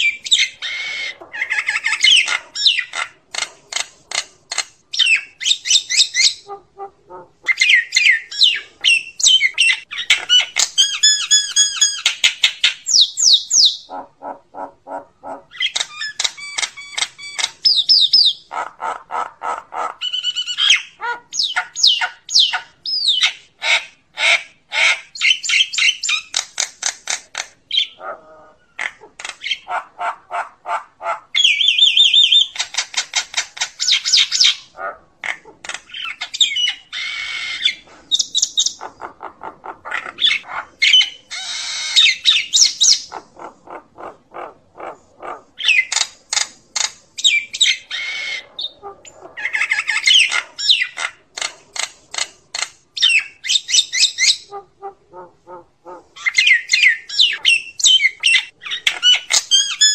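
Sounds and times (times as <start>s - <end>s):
bird chattering and squawking: 0.0s - 59.9s.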